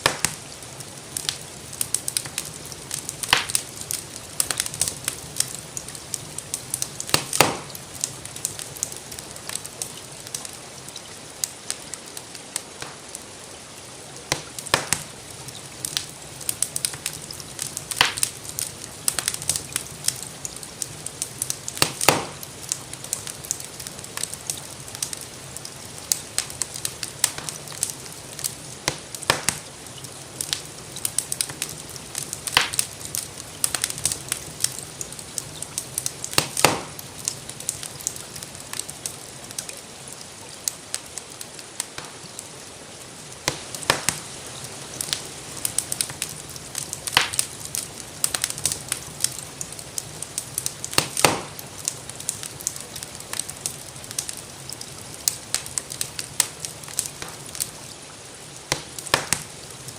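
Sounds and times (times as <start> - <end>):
rain hissing: 0.0 - 59.9
wood fire crackling: 0.0 - 59.9.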